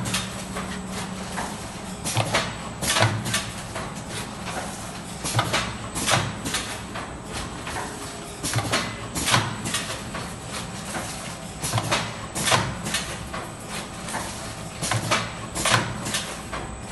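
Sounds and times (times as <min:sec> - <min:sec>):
pneumatic cylinders hissing clacks: 0:00.0 - 0:16.8.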